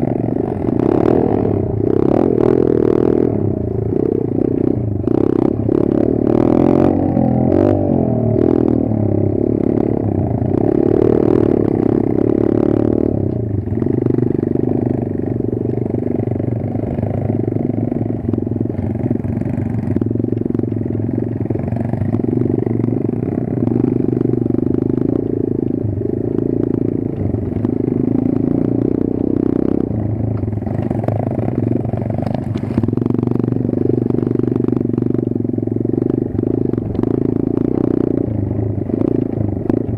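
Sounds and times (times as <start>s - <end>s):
pit bike engine running: 0.0s - 39.9s.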